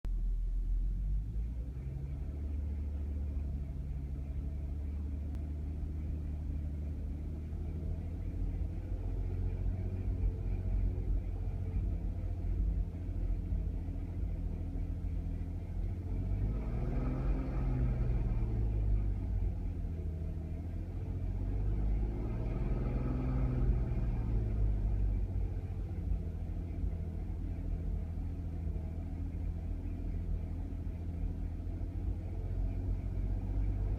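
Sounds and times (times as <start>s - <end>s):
car engine idling with misfire: 0.2s - 33.9s
engine revving: 1.0s - 33.9s.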